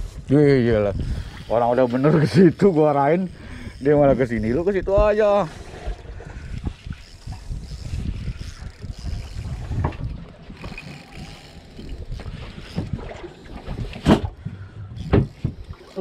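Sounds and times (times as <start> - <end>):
wind buffeting microphone: 0.0 - 15.9
small boat engine rumble: 0.0 - 16.0.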